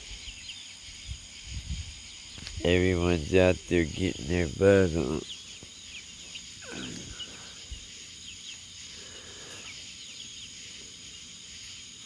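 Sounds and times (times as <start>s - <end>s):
chicks peeping: 0.0s - 12.0s
insects chirping: 0.0s - 12.0s.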